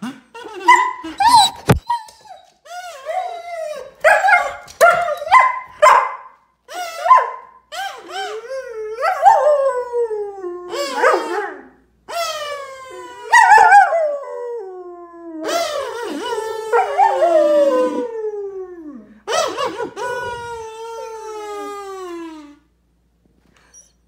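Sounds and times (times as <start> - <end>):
dog whining and howling: 0.5 - 5.4, 6.7 - 22.7, 23.6 - 24.0.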